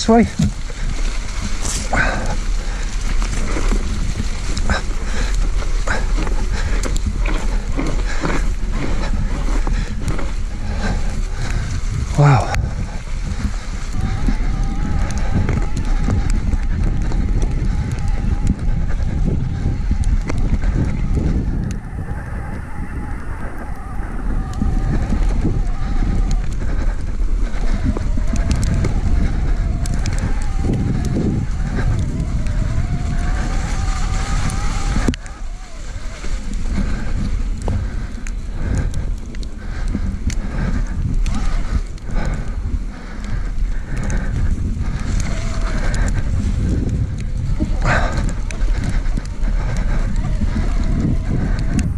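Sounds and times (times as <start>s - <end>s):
bike clicks and rattles: 0.0s - 51.9s
tyres rolling through snow: 0.0s - 51.9s
wind rushing over microphone: 0.0s - 51.9s.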